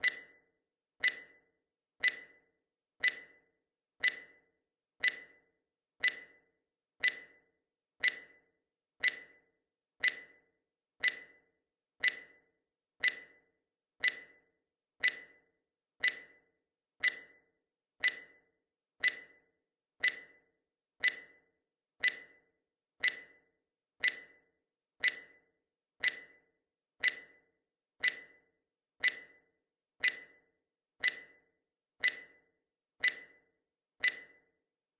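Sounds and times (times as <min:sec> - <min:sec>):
clock-like timer ticks: 0:00.0 - 0:34.6.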